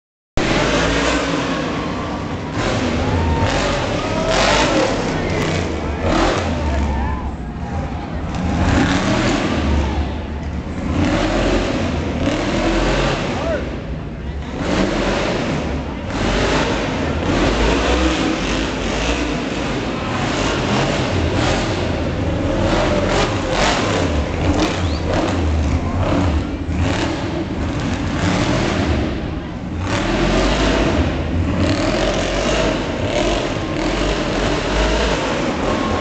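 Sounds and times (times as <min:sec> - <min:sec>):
crowd voices: 0:00.4 - 0:36.0
truck engine revving: 0:00.4 - 0:36.0.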